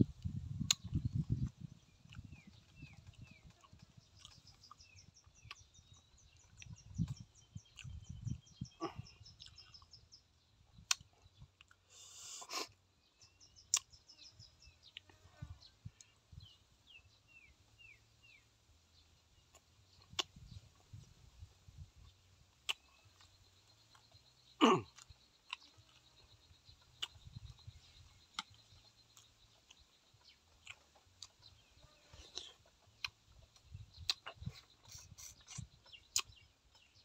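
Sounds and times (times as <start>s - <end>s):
man chewing food: 0.0s - 14.1s, 19.0s - 37.0s
birds chirping: 0.0s - 37.0s.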